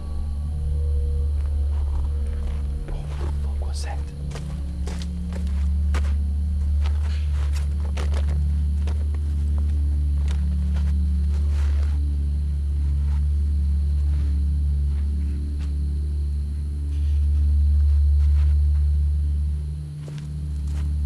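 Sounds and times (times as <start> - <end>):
rustles: 0.0 - 21.0
steady low rumble: 0.0 - 21.0.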